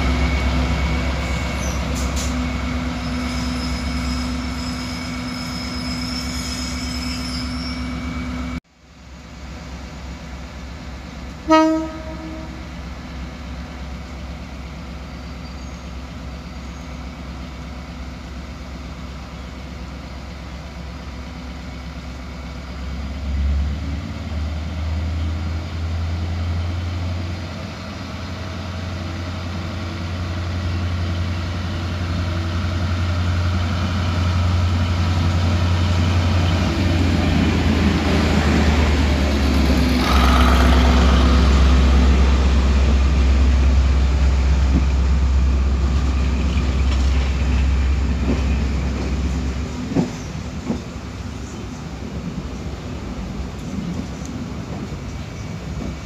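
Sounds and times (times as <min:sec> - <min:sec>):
diesel locomotive engine: 0:00.0 - 0:56.0
train coaches rolling past: 0:00.0 - 0:56.0.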